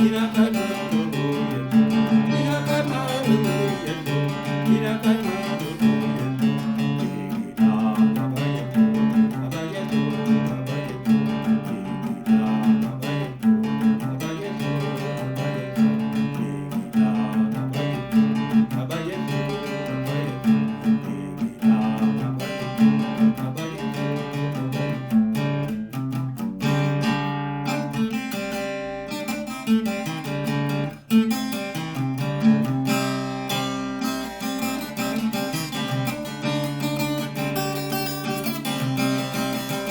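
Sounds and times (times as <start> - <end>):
strummed acoustic guitar music: 0.0 - 39.9.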